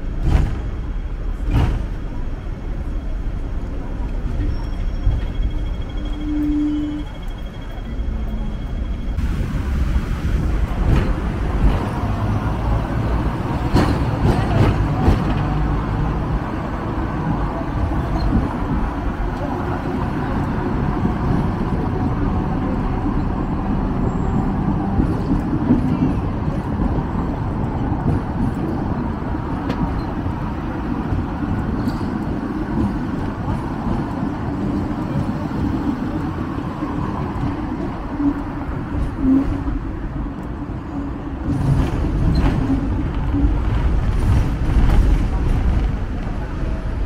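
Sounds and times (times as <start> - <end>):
street traffic: 0.0 - 47.0
tram wheels rumbling on rails: 0.0 - 47.0.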